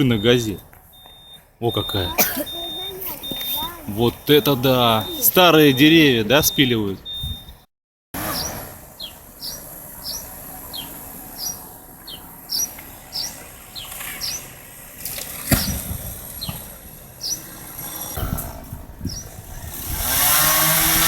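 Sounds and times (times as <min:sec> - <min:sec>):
bird chirping: 0:00.0 - 0:07.6, 0:08.2 - 0:18.1, 0:19.0 - 0:19.4.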